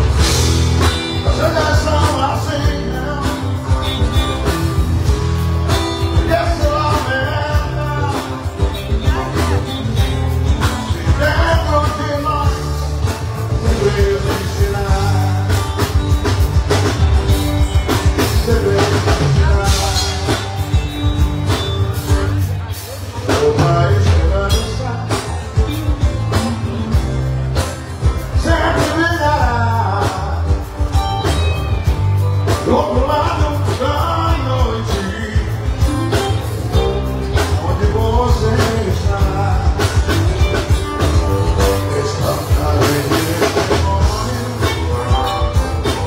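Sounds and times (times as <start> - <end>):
drum beat: 0.0 - 46.0
live band playing: 0.0 - 46.0
man singing: 0.0 - 46.0.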